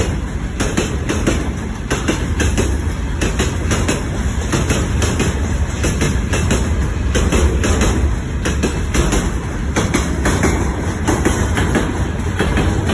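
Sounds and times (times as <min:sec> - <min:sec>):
freight train rolling past: 0:00.0 - 0:12.9.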